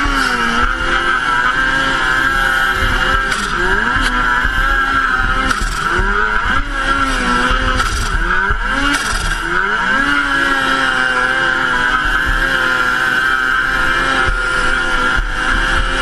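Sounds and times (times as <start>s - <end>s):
engine accelerating hard: 0.0s - 16.0s
turbo whine: 0.0s - 16.0s.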